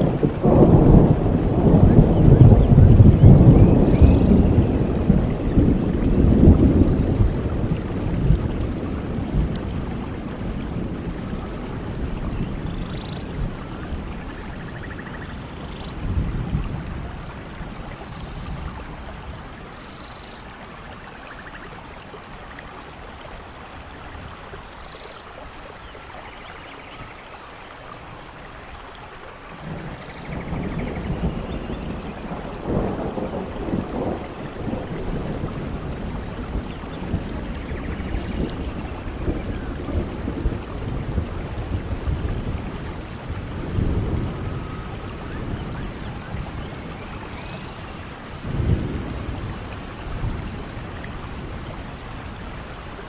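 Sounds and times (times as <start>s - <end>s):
thunder rumbling: 0.0s - 19.9s, 29.4s - 53.0s
steady rain: 0.0s - 53.0s.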